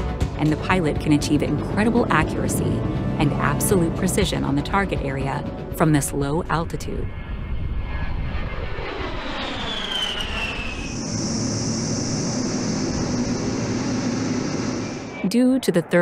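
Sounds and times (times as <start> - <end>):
jet engines whining flying past: 0.0 - 16.0.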